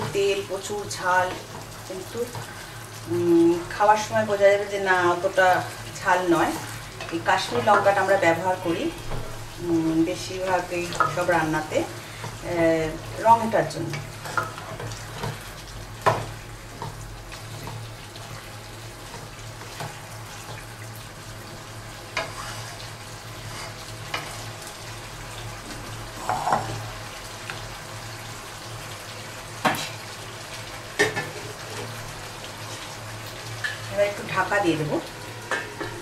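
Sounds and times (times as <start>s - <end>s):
chicken sizzling in a pot: 0.0s - 36.0s.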